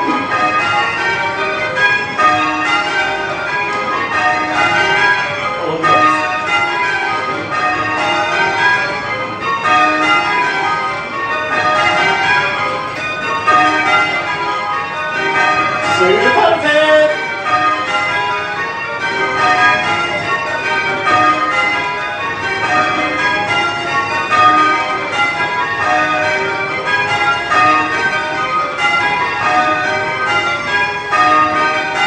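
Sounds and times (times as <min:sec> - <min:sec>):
church bells change ringing: 0:00.0 - 0:32.0.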